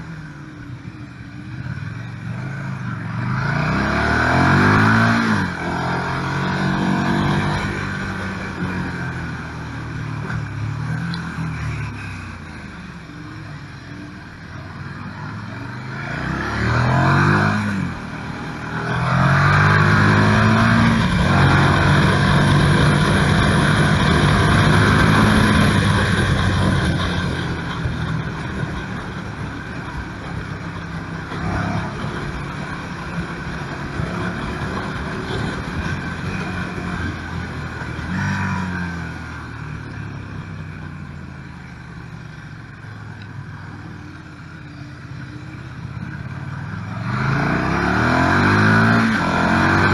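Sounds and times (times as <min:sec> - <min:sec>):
motorcycle engine revving: 0:01.7 - 0:12.3, 0:14.6 - 0:41.8, 0:43.8 - 0:49.9.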